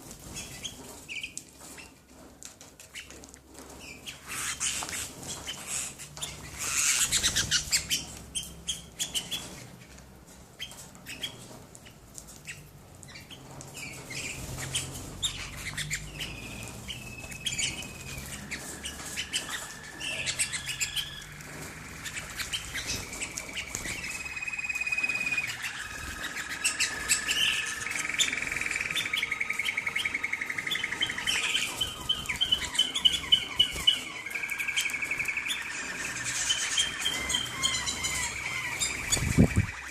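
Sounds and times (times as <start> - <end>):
canaries chirping and trilling: 0.0 - 39.9.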